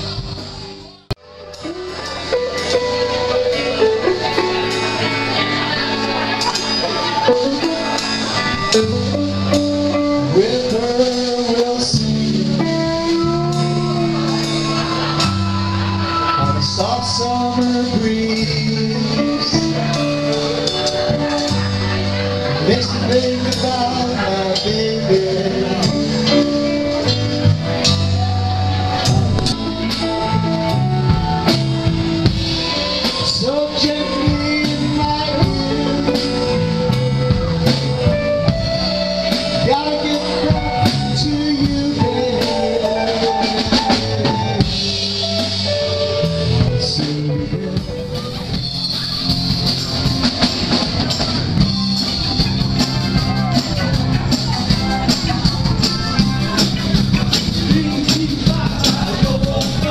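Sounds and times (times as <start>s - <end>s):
drum kit beat: 0.0s - 59.9s
electric guitars: 0.0s - 59.9s.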